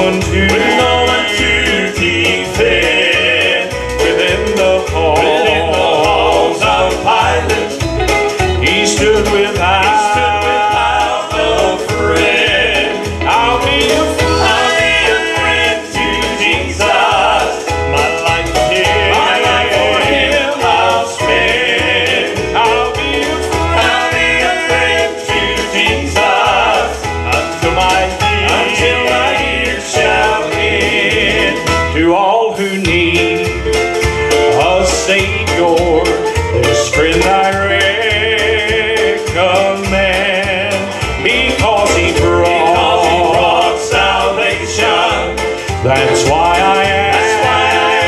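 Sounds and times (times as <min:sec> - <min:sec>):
instrumental accompaniment with bass beat: 0:00.0 - 0:48.0
men singing gospel in harmony: 0:00.0 - 0:48.0.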